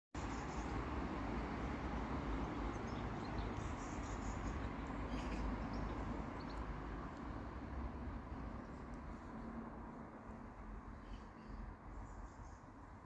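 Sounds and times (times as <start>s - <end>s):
low outdoor rumble: 0.2s - 13.0s.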